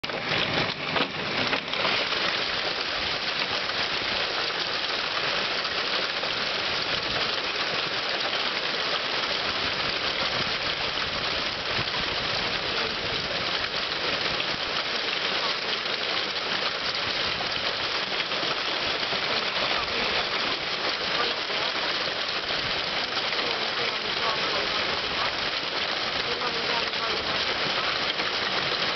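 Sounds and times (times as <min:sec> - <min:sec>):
hail hitting street and cars: 0:00.0 - 0:28.9.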